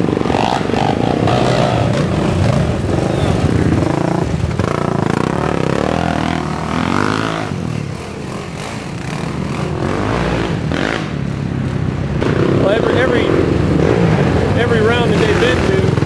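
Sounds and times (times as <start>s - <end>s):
quad engines revving: 0.0s - 16.0s.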